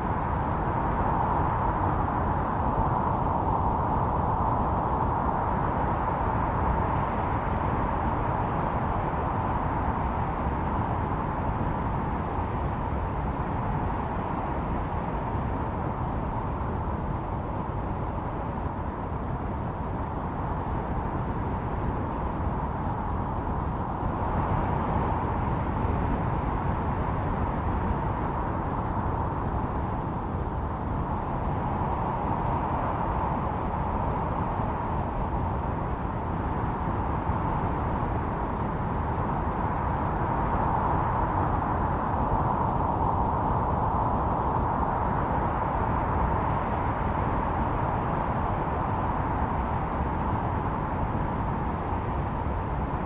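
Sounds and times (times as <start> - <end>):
snowstorm wind howling: 0.0 - 53.0.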